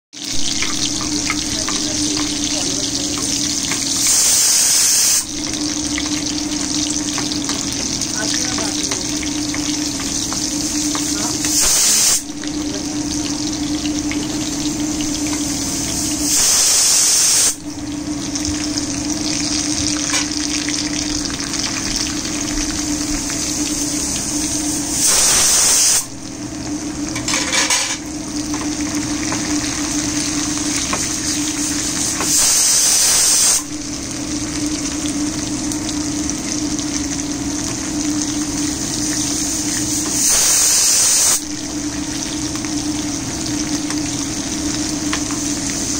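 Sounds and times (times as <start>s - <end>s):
oil sizzling in a pan: 0.2s - 45.9s
steady hum: 0.2s - 45.9s.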